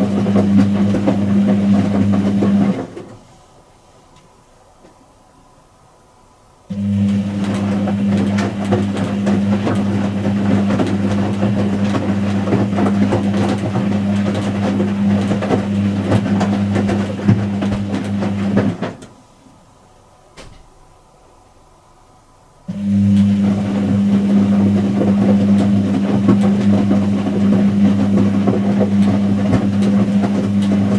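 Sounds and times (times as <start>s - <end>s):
washing machine motor humming: 0.0s - 3.6s, 6.4s - 20.1s, 22.6s - 30.9s.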